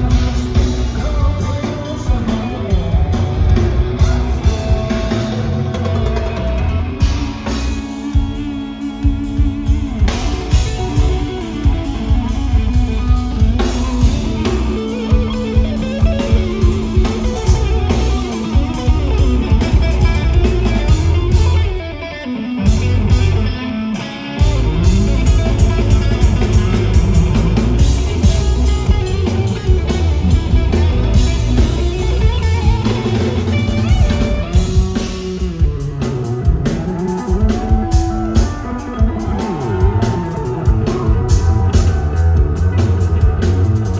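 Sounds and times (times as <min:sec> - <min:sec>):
drum kit: 0:00.0 - 0:43.9
electric bass: 0:00.0 - 0:43.9
electric guitar: 0:00.0 - 0:43.9.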